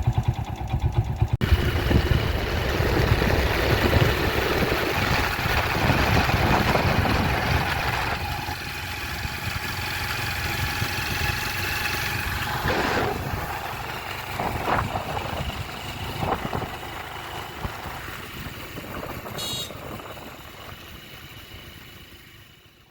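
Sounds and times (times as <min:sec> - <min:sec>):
vehicle engine running: 0:00.0 - 0:22.9.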